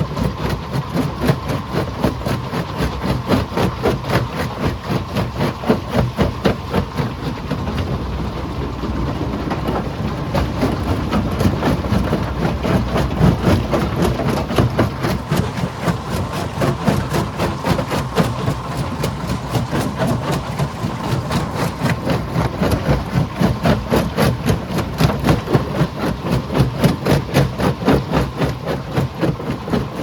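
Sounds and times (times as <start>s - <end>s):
rapid clatter of knocks: 0.0s - 30.0s
stone crusher machinery rumble: 0.0s - 30.0s.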